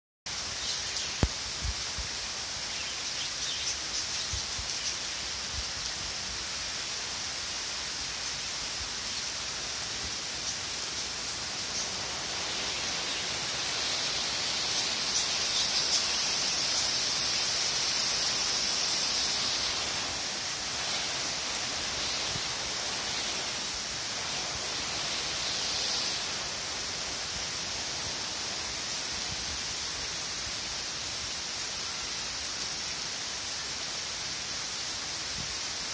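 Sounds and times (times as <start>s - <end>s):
steady rain falling: 0.3s - 35.9s.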